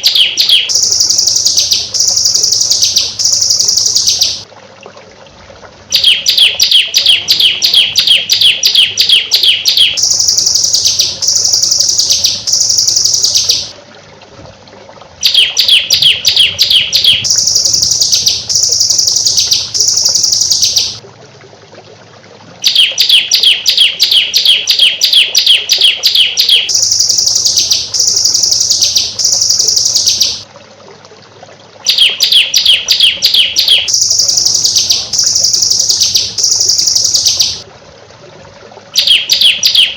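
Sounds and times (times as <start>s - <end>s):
small songbird singing: 0.0s - 4.5s, 5.9s - 13.8s, 15.2s - 21.0s, 22.6s - 30.5s, 31.9s - 37.6s, 39.0s - 39.9s.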